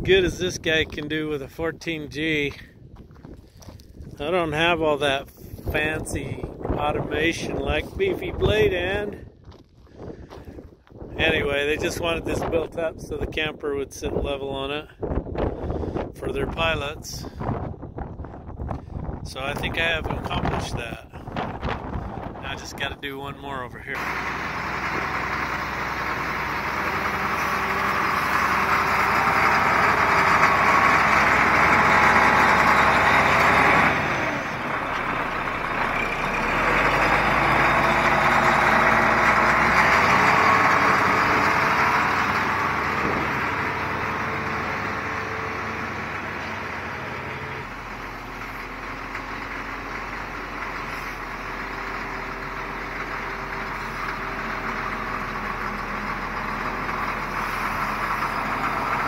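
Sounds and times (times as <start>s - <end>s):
diesel engine running under load: 0.0s - 13.4s, 18.7s - 59.0s.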